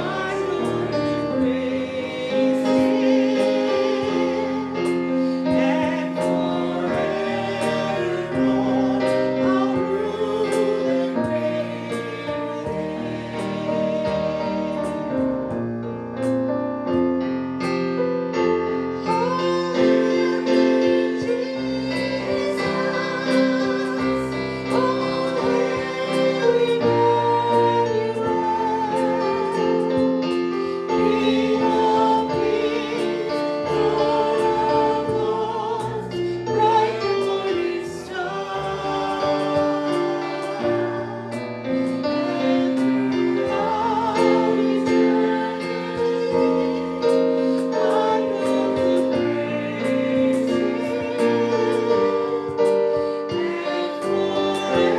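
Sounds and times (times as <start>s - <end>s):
piano accompaniment: 0.0s - 54.9s.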